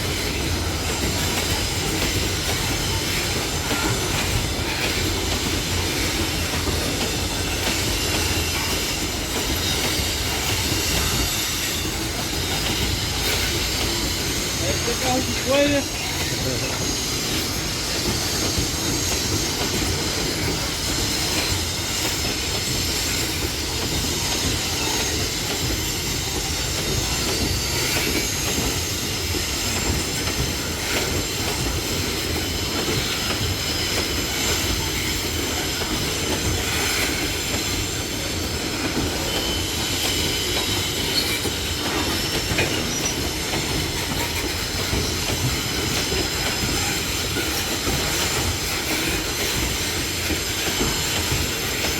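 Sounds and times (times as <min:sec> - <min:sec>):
freight wagons rolling on rails: 0:00.0 - 0:51.9.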